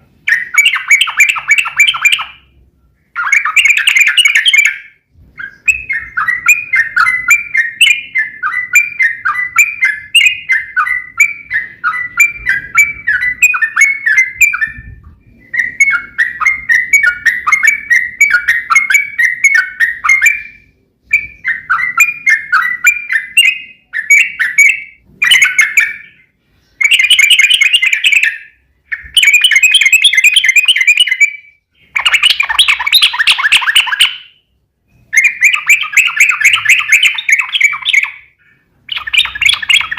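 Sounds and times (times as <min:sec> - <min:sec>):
bulbul singing bubbling song: 0:00.2 - 0:39.9.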